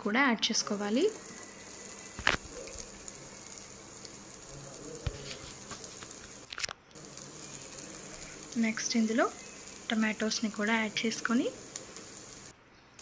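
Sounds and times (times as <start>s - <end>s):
onions sizzling in butter: 0.5s - 12.5s.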